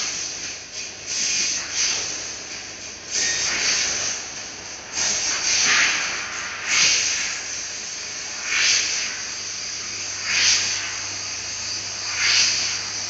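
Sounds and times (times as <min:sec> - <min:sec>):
laser cutter hissing: 0:00.0 - 0:13.0.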